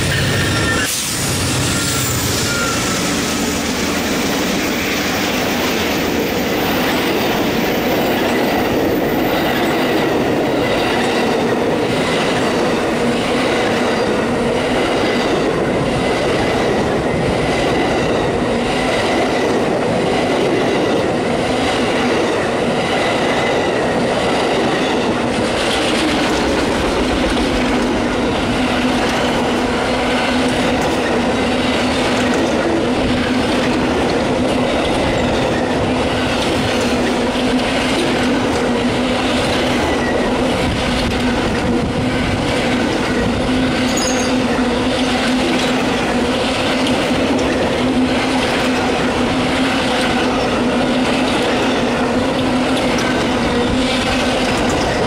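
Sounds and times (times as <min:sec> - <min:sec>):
diesel locomotive passing: 0:00.0 - 0:55.0
rush of passing train cars: 0:00.0 - 0:55.0
wheels clacking over rail joints: 0:01.6 - 0:55.0.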